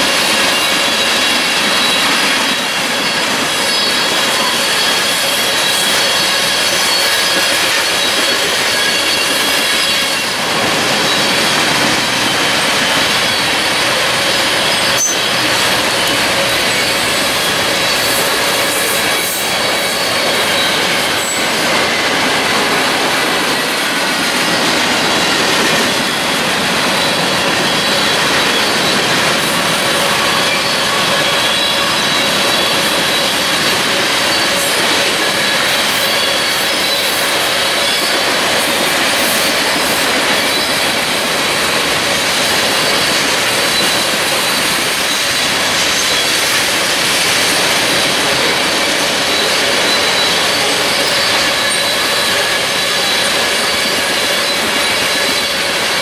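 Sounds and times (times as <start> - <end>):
train wheels rushing on track: 0.0 - 56.0
high-pitched wheel squeals: 0.3 - 22.3, 24.1 - 38.3, 42.3 - 56.0.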